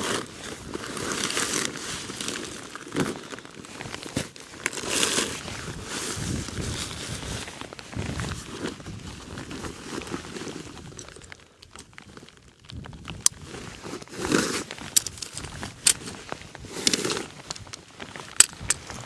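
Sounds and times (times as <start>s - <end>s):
tent fabric rustling: 0.0s - 11.3s, 12.0s - 19.0s.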